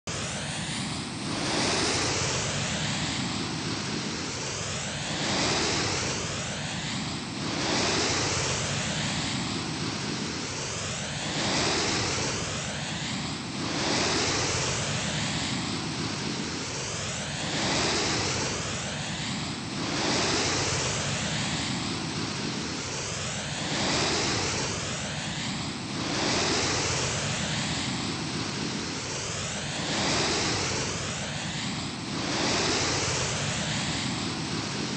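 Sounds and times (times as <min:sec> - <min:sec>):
ceiling fan air rushing: 0:00.1 - 0:34.9.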